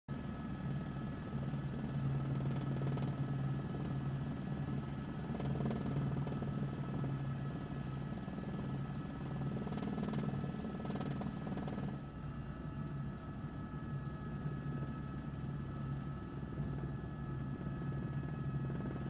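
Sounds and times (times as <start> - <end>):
helicopter engine and rotors: 0.1 - 19.0.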